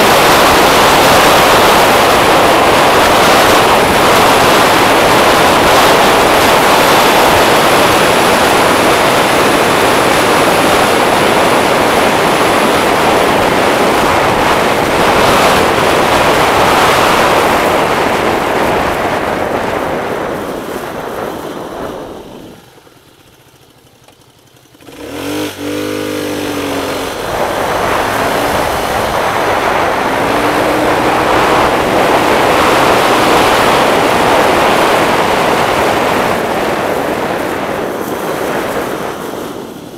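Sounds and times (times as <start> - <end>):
wind rush on microphone: 0.0 - 23.5, 24.9 - 39.9
scooter engine revving: 0.0 - 39.9.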